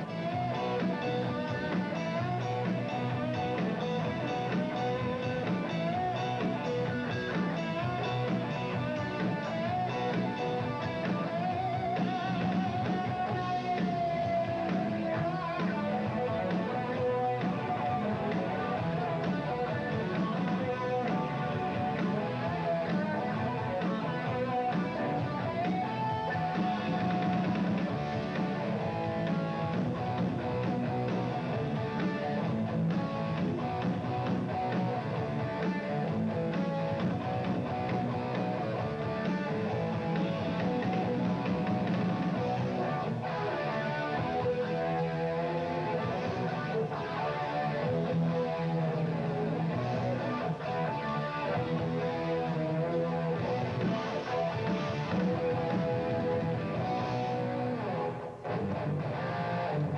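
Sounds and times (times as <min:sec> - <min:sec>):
drum kit: 0:00.0 - 0:59.9
electric guitars strummed: 0:00.0 - 0:59.9.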